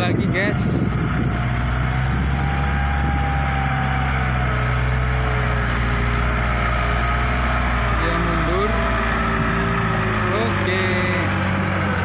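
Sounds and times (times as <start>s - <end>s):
truck diesel engine at low revs: 0.0s - 12.0s.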